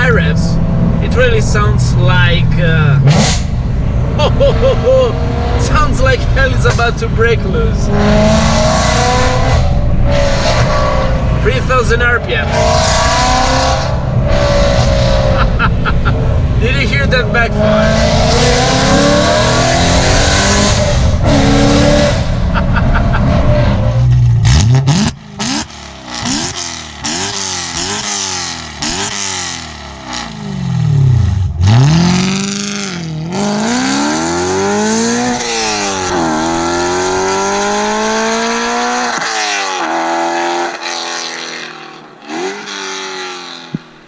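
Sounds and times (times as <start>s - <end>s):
loud car engine revving: 0.0s - 44.0s.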